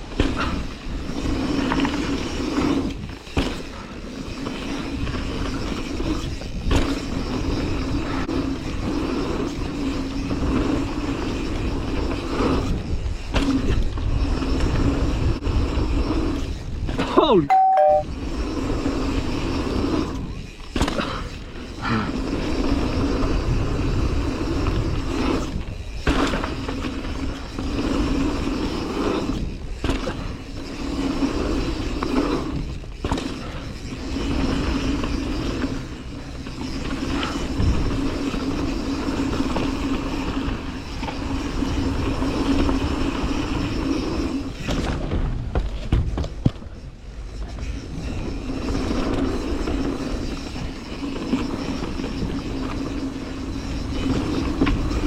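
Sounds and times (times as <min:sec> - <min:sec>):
bike knocking and rattling: 0:00.0 - 0:14.9, 0:20.2 - 0:55.0
bike tyres rumbling over dirt: 0:00.0 - 0:17.2, 0:18.2 - 0:55.0.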